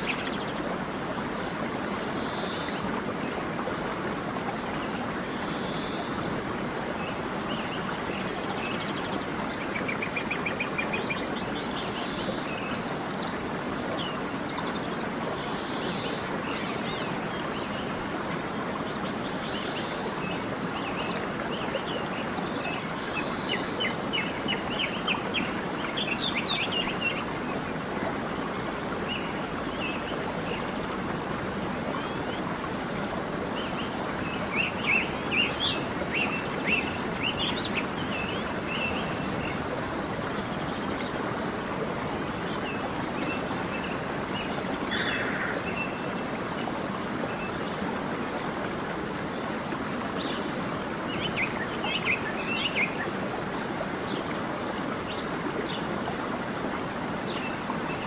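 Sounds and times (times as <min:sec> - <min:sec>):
creek running: 0:00.0 - 0:58.0.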